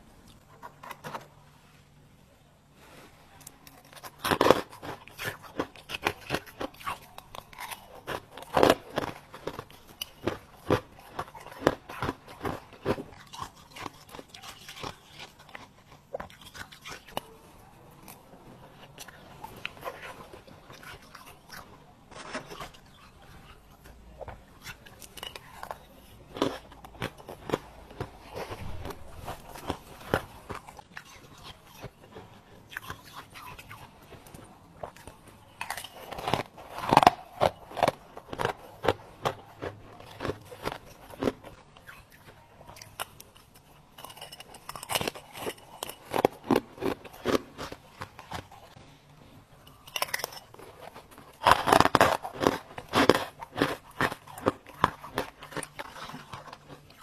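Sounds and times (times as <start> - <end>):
chewing crunchy frost: 0.0 - 1.8, 2.8 - 57.0.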